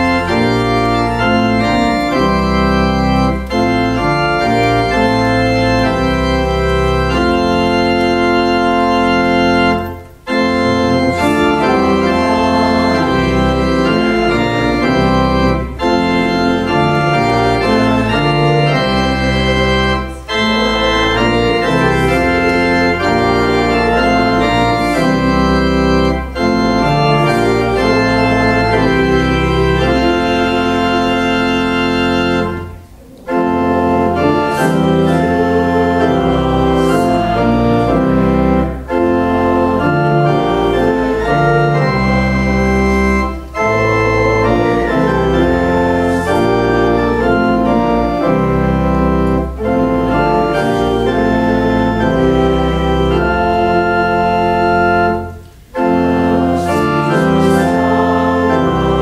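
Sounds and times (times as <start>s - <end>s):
pipe organ playing hymn: 0.0s - 59.0s.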